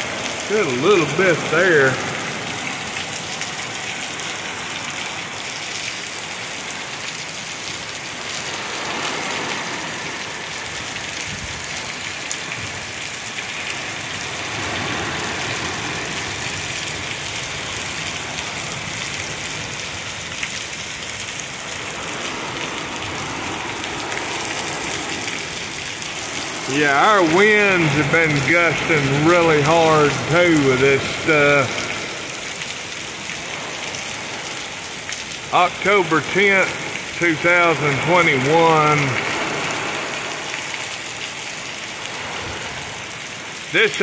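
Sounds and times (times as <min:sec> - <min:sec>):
torrential rain in gusting wind: 0:00.0 - 0:44.0.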